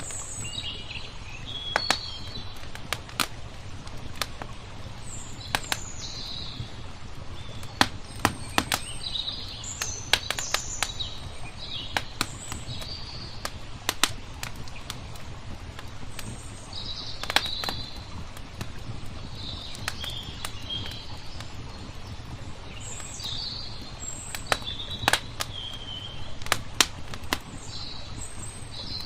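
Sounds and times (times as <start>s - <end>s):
small birds chirping: 0.0s - 29.0s
wood fire crackling and popping: 0.0s - 29.0s.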